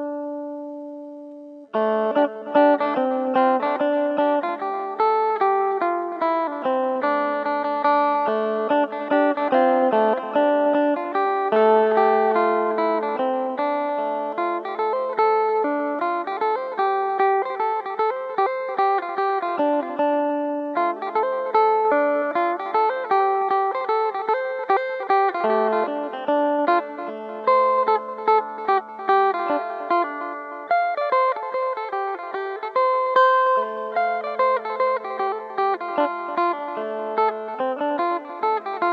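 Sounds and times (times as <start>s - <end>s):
plucked lute melody with drone: 0.0s - 38.9s.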